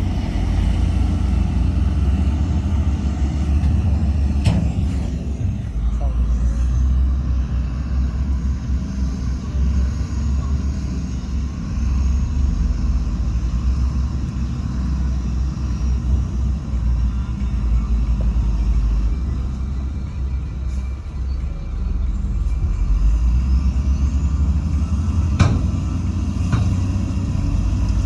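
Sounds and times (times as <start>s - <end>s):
diesel earthmoving machinery rumbling: 0.0s - 28.0s.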